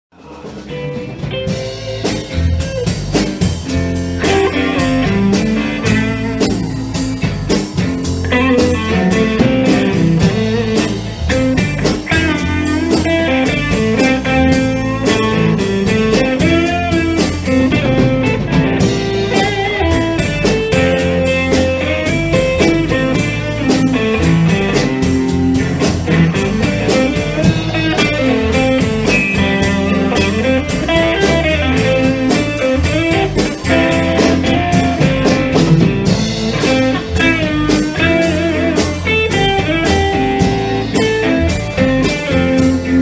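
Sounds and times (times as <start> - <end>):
drum kit steady beat: 0.1 - 43.0
electric bass: 0.1 - 43.0
electric guitar with bent notes: 0.1 - 43.0.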